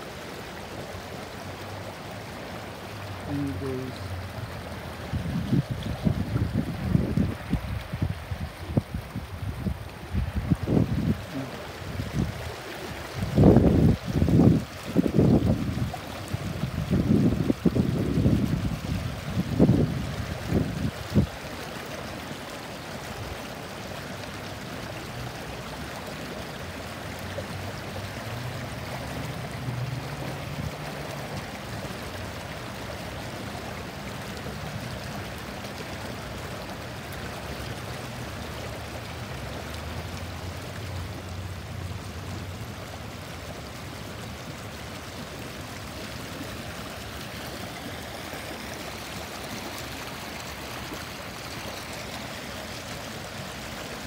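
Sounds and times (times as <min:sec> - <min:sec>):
water rushing over a weir: 0:00.0 - 0:54.0.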